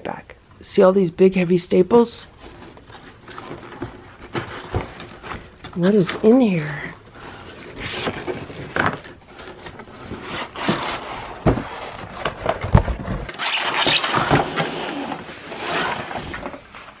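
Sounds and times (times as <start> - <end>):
cardboard scraping and crackling: 2.4 - 17.0.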